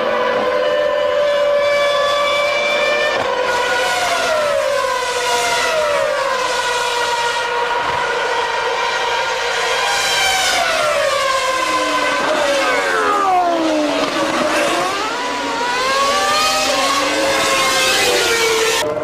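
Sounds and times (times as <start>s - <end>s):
racing car engines at high revs: 0.0s - 19.0s.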